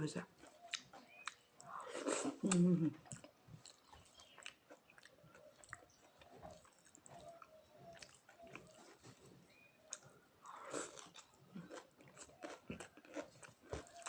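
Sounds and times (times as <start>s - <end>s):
faint chewing of food: 0.2s - 14.0s.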